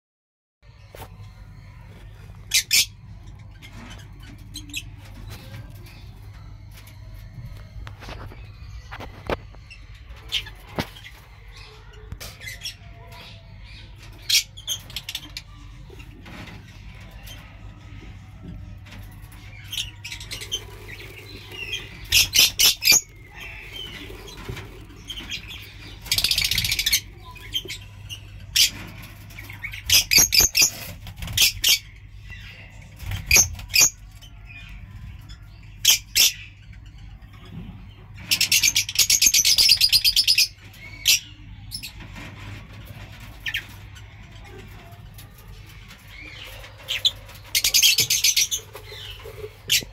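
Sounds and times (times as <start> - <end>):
lovebirds chirping: 0.7 - 42.2, 43.0 - 49.9.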